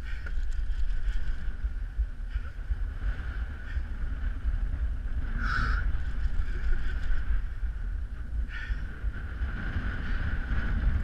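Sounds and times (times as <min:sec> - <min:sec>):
heavy rumble: 0:00.0 - 0:11.0
wind buffeting microphone: 0:00.0 - 0:11.0.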